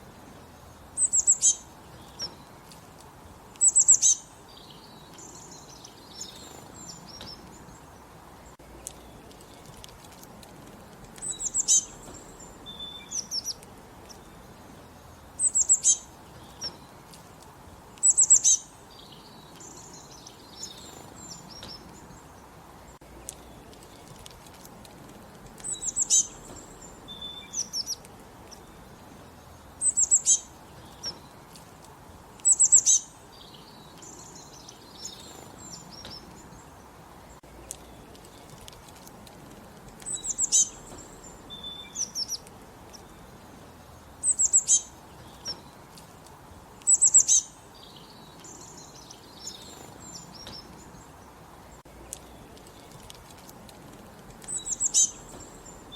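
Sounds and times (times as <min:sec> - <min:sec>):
faint outdoor hiss: 0:00.0 - 0:55.9
songbirds chirping: 0:00.0 - 0:55.9.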